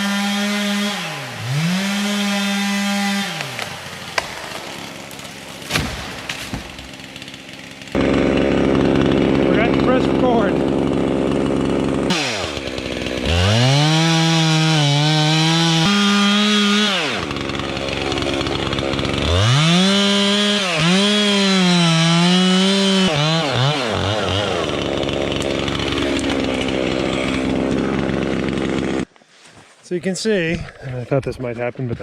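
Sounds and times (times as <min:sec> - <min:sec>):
chainsaw cutting wood: 0:00.0 - 0:29.1
chainsaw idling: 0:00.0 - 0:29.1.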